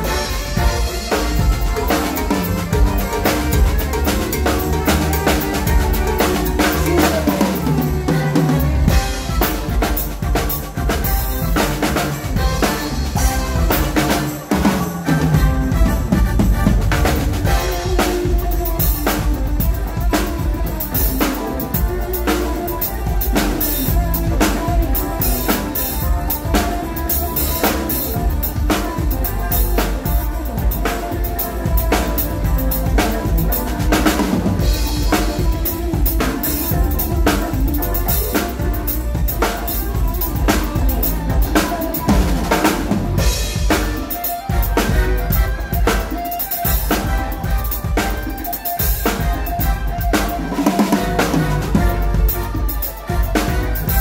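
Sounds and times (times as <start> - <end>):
cymbals: 0.0 - 54.0
held instrument notes: 0.0 - 54.0
snare drum: 0.0 - 54.0.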